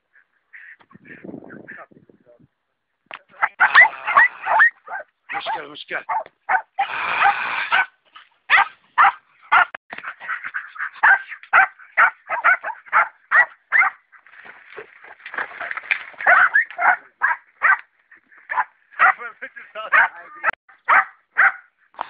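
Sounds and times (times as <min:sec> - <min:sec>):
terriers barking and yipping: 0:00.0 - 0:02.0, 0:03.2 - 0:07.9, 0:08.5 - 0:14.3, 0:15.5 - 0:21.8.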